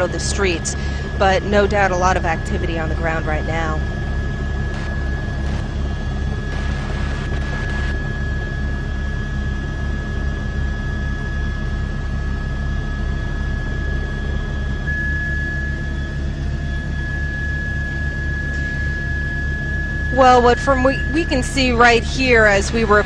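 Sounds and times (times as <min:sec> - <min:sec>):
helicopter engine and rotor: 0:00.0 - 0:23.0
high-pitched turbine whine: 0:00.0 - 0:23.0.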